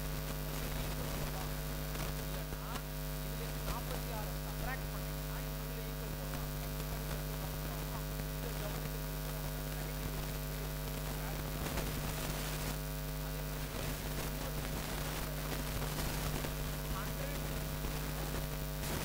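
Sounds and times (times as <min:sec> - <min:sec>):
constant hiss: 0:00.0 - 0:19.0
electrical mains hum: 0:00.0 - 0:19.0.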